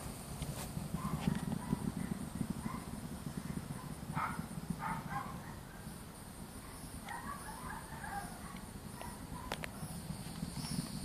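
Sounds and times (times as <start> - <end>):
high cicada buzz: 0.0 - 11.0
dogs barking in the distance: 0.8 - 10.1.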